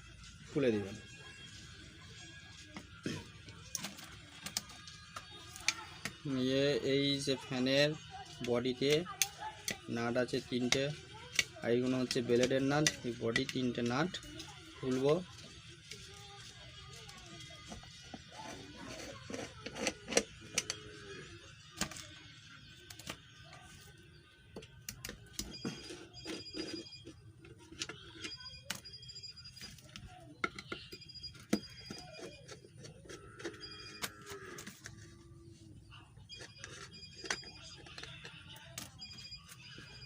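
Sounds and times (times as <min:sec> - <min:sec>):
faint voices: 0:00.0 - 0:40.0.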